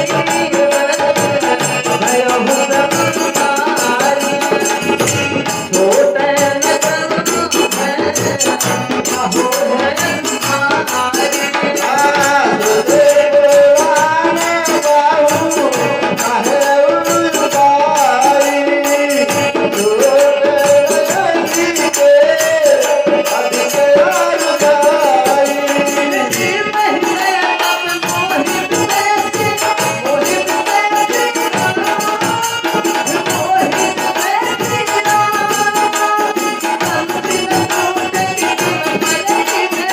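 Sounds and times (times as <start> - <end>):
fast rattling percussion: 0.0 - 39.9.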